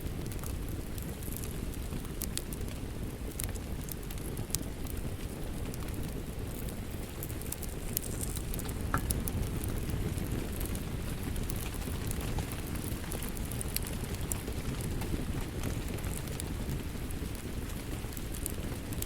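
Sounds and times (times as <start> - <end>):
steady rain: 0.0 - 19.0
wood fire popping and crackling: 0.0 - 19.0.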